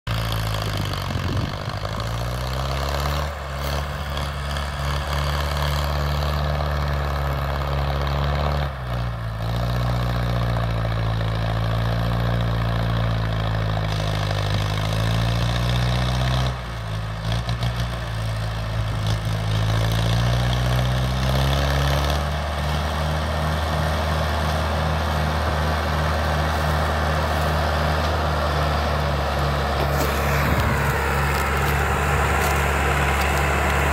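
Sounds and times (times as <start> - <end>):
diesel tractor engine under load: 0.0 - 33.9.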